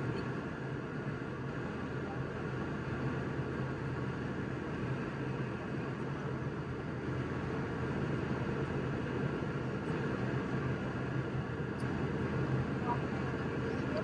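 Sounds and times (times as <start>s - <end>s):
jet engine and airflow roar: 0.0s - 14.0s.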